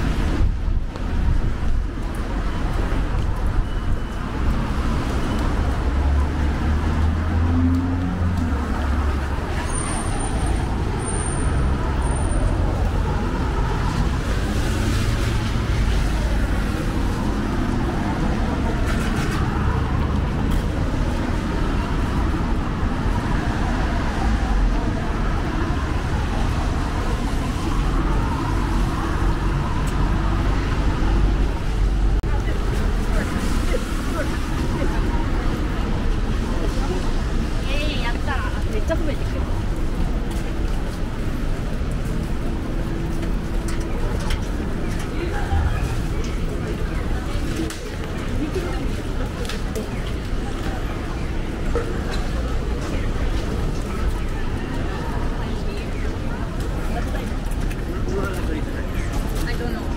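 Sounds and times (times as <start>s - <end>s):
cars and buses passing: 0.0s - 59.9s
low rumble of engines: 0.0s - 59.9s.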